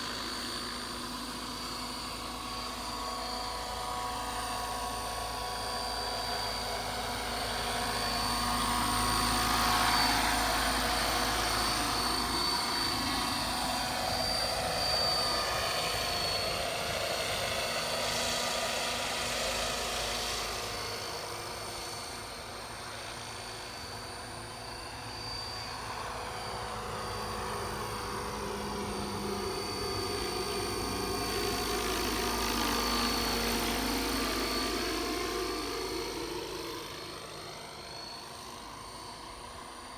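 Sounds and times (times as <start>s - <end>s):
model helicopter whine: 0.0s - 39.9s.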